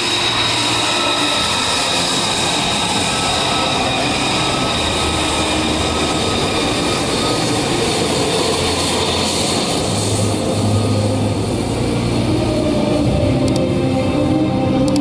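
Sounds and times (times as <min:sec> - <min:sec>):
jet engine whining: 0:00.0 - 0:15.0
low jet hum: 0:00.0 - 0:15.0.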